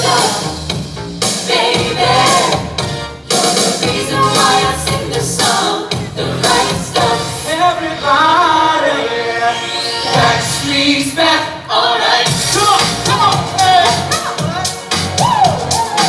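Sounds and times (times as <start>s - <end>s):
backing track: 0.0s - 16.0s
pop vocal group singing live: 0.0s - 16.0s.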